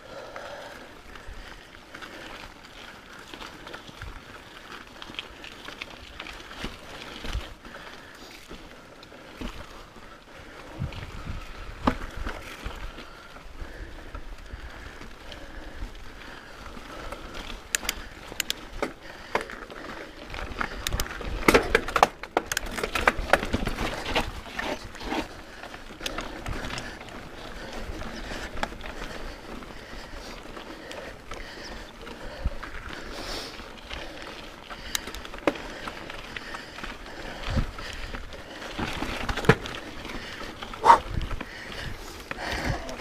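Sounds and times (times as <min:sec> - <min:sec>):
bike tyres rolling over gravel: 0:00.0 - 0:43.0
bike clicks and knocks over rocks: 0:00.2 - 0:43.0.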